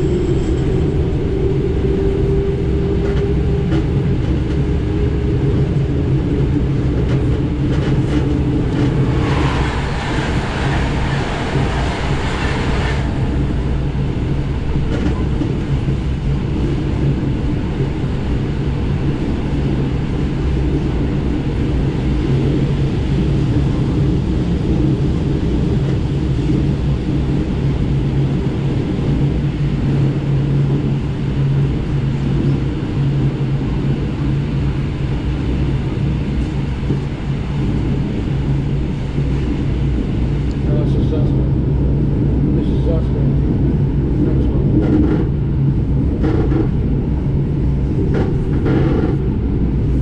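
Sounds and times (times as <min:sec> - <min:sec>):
electric train rumble and hum: 0:00.0 - 0:50.0.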